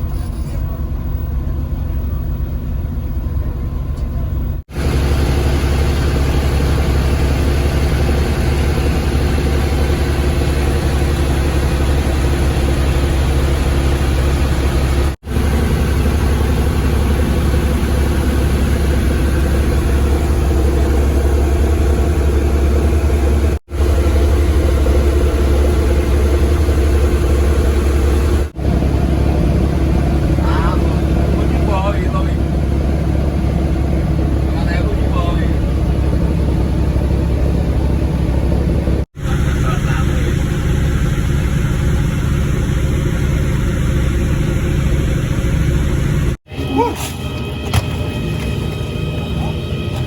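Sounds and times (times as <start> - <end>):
boat engine humming: 0.0 - 50.0.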